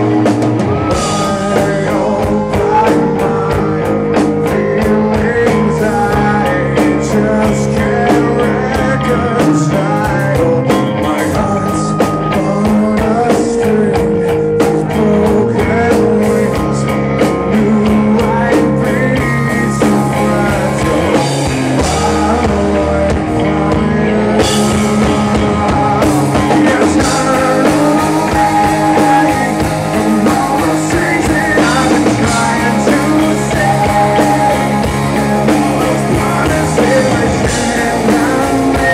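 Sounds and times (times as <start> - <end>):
drum kit: 0.0 - 38.9
electric guitars: 0.0 - 38.9
man singing: 0.0 - 38.9.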